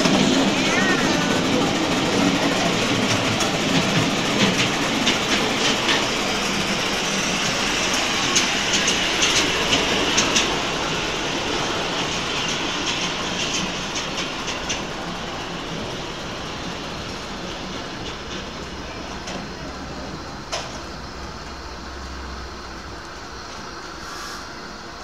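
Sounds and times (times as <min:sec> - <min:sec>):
wheels clicking over rail joints: 0:00.0 - 0:23.9
ride-on train running on track: 0:00.0 - 0:25.0.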